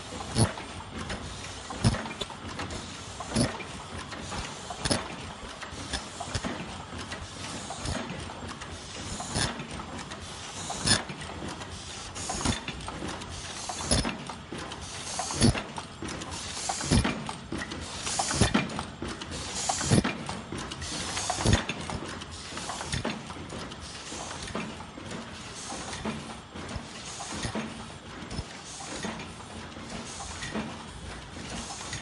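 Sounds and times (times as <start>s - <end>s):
machine clacking: 0.0s - 32.0s
mechanical hum: 0.0s - 32.0s.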